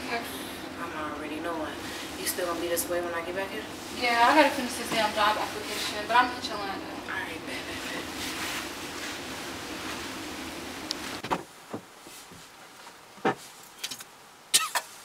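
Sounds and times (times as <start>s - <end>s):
restaurant room tone with low hum: 0.0s - 15.0s.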